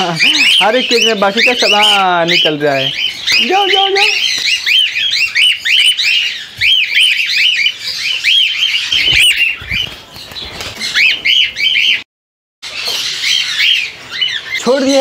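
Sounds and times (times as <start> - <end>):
cockatiels chirping: 0.0 - 12.0, 12.7 - 15.0.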